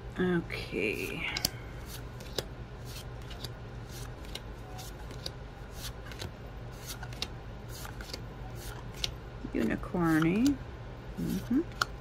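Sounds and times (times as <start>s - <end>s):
low steady hum: 0.0s - 12.0s
cards being leafed through: 0.9s - 10.6s.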